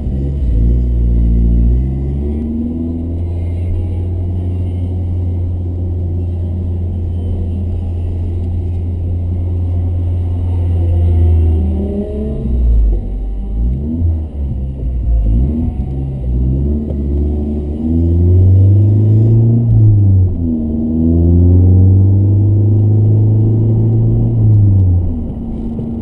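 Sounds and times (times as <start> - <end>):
car engine droning under load: 0.0 - 26.0.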